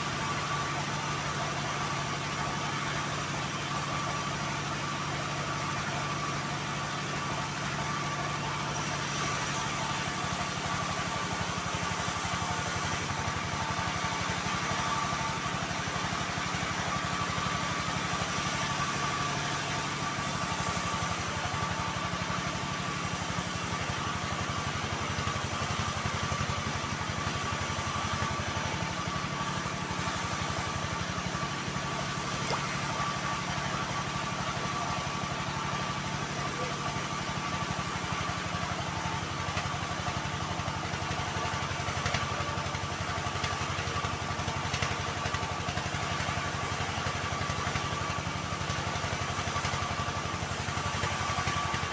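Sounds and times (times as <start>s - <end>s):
sawmill motor drone: 0.0s - 51.9s.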